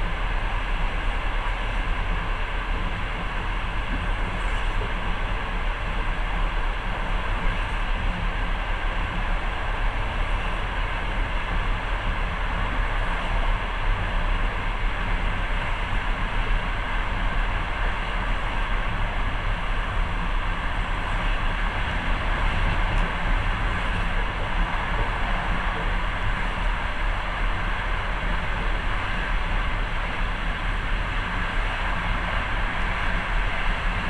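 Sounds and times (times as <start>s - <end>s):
passenger train running: 0.0s - 34.0s.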